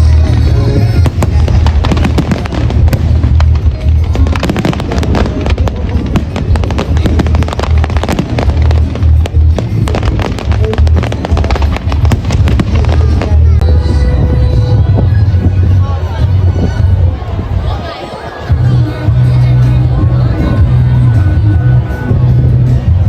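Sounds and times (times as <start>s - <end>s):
fireworks exploding: 0.0s - 19.0s
background music: 0.0s - 23.0s.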